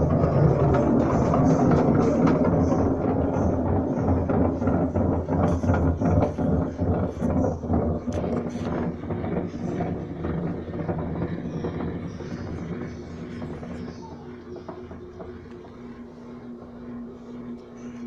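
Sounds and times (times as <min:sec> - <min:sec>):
washing machine knocking and clattering: 0:00.0 - 0:17.6
washing machine motor hum: 0:00.0 - 0:18.0.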